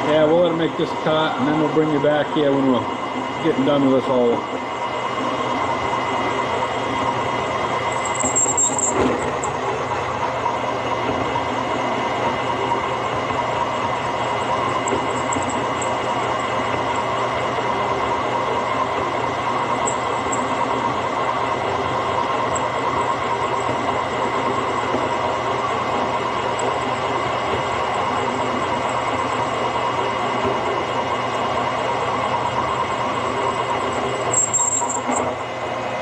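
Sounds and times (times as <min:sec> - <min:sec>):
metal boring machine grinding hum: 0:00.0 - 0:36.0.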